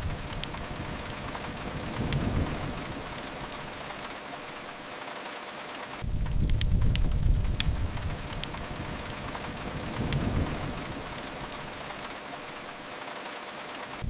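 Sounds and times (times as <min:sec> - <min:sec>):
low rumble of thunder: 0:00.0 - 0:04.9, 0:06.0 - 0:12.9
steady rain: 0:00.0 - 0:14.0
wood fire crackles: 0:00.0 - 0:14.0.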